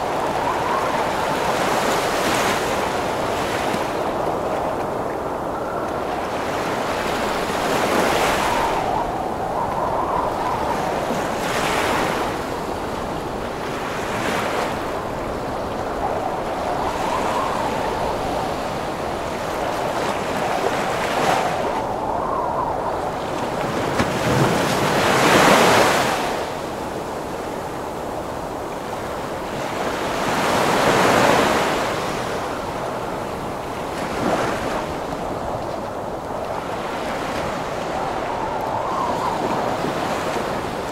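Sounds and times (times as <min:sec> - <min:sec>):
ocean waves crashing: 0:00.0 - 0:40.9
wind storm blowing: 0:00.0 - 0:40.9.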